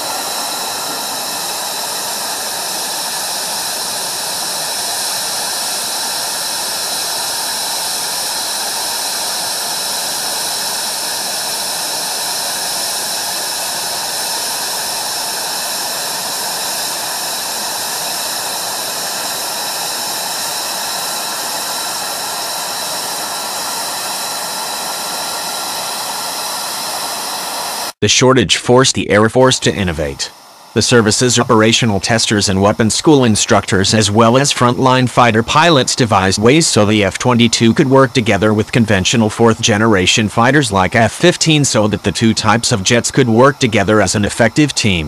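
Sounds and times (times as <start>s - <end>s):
jet engine rush: 0.0s - 45.0s.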